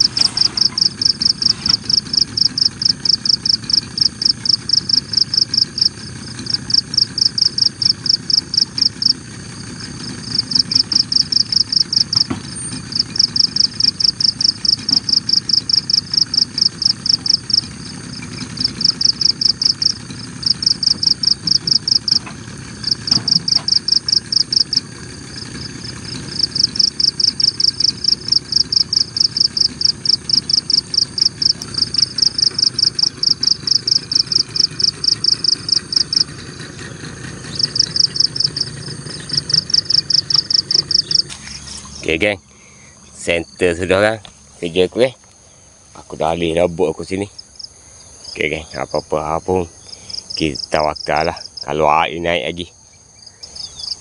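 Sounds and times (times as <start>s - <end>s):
insect calling in fast pulses: 0.0s - 54.0s.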